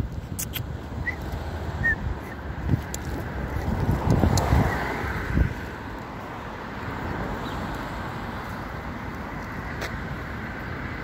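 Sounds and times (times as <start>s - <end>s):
city road traffic: 0.0s - 11.0s.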